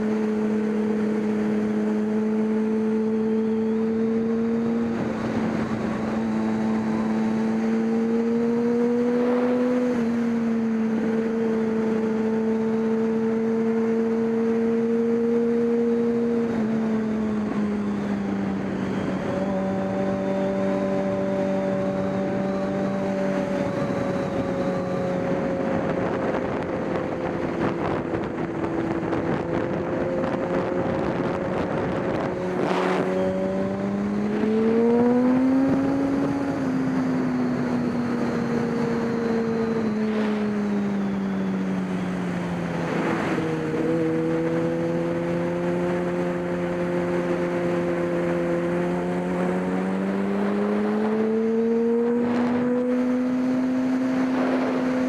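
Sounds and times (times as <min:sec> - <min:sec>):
racing motorcycle engine: 0:00.0 - 0:55.0.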